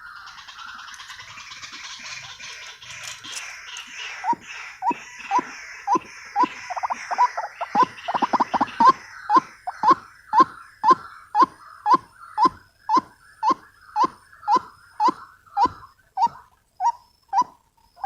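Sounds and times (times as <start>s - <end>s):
waterhen calling: 0.0s - 17.5s.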